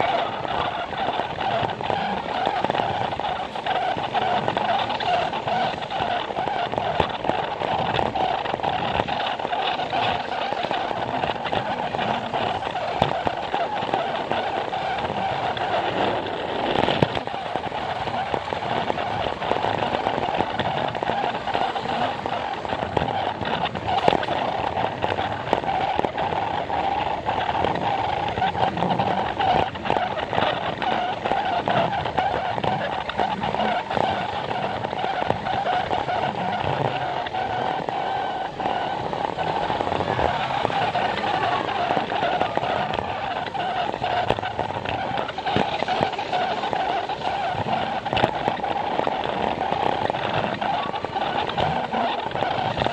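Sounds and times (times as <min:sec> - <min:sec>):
toy train motor whine: 0:00.0 - 0:52.8
wheels clicking over plastic track: 0:00.0 - 0:52.9.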